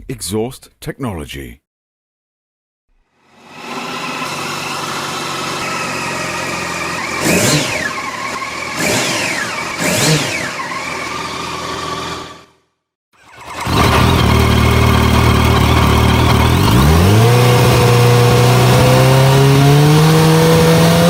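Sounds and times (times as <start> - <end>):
motorcycle engine idling and revving: 3.0 - 21.0.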